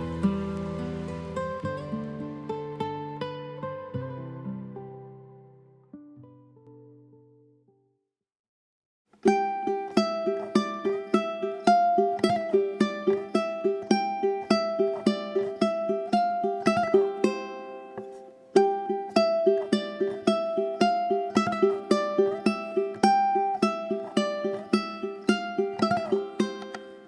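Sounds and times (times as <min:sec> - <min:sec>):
fingerpicked guitar music: 0:00.0 - 0:07.9, 0:09.2 - 0:27.0.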